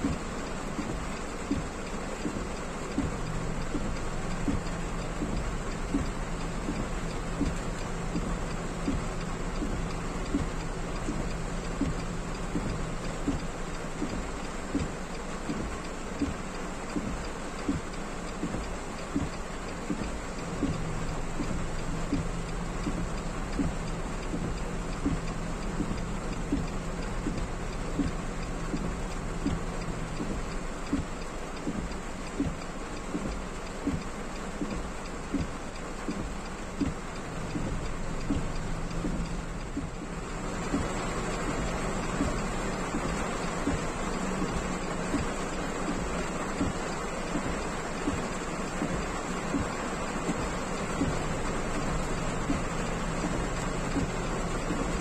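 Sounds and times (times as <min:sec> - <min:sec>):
heavy rain on car roof: 0:00.0 - 0:55.0
steady low hum: 0:00.0 - 0:55.0.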